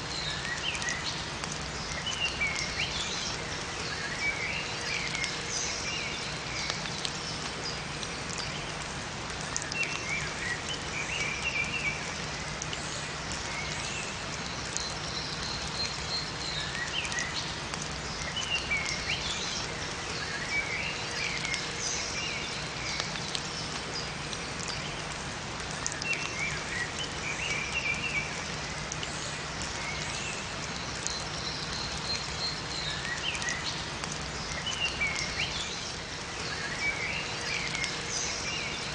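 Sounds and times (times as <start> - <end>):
rain falling in forest: 0.0 - 38.9
songbirds chirping: 0.0 - 38.9.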